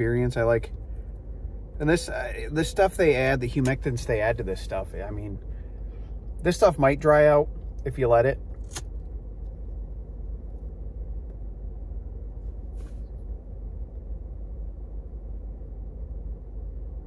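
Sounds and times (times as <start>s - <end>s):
car engine drone inside cabin: 0.0s - 17.0s.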